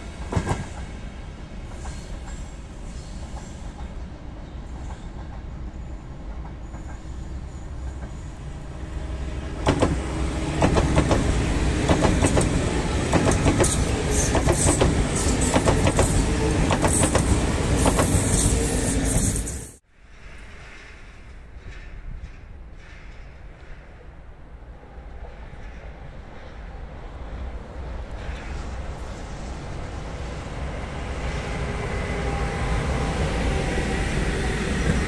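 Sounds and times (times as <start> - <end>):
electric train passing: 0.0 - 35.0.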